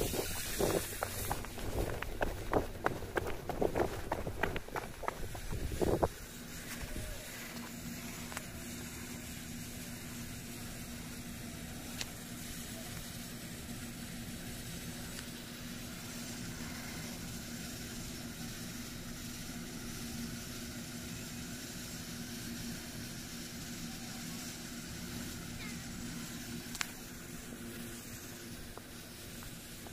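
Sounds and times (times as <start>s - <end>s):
steam locomotive hissing and humming: 0.0s - 29.9s.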